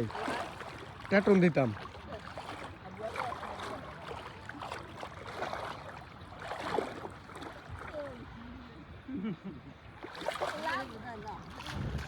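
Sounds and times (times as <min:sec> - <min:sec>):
water sloshing and lapping: 0:00.0 - 0:09.0, 0:09.7 - 0:12.0.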